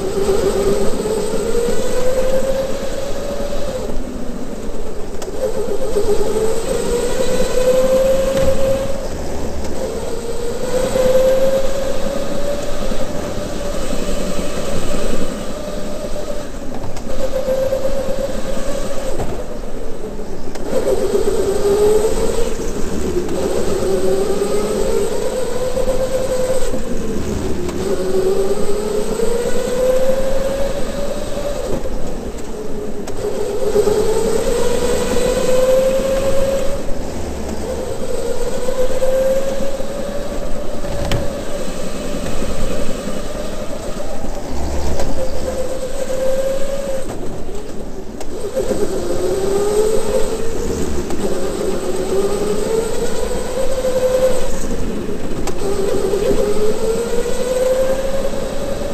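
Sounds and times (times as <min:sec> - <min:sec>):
electric go-kart motor whining: 0:00.0 - 0:58.9
tyre and chassis noise: 0:00.0 - 0:58.9.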